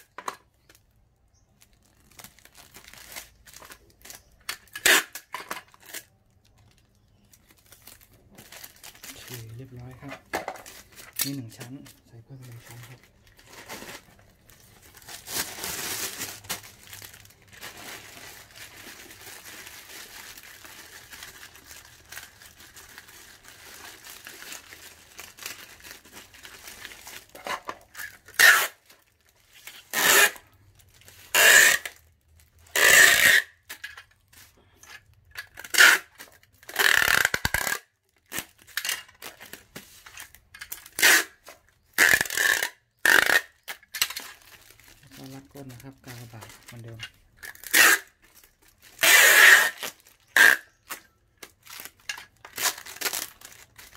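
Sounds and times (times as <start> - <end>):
rustling of packing materials: 0.0 - 53.9
packing tape pulled off roll: 1.8 - 53.9.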